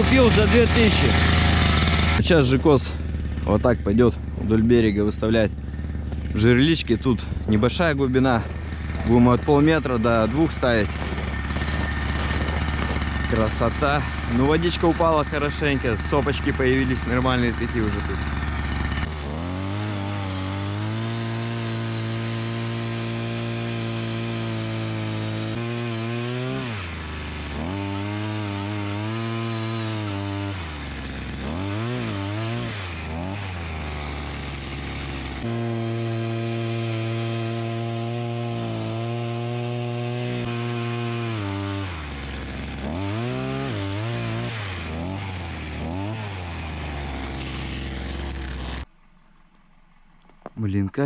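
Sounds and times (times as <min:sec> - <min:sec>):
small engine revving: 0:00.0 - 0:48.9.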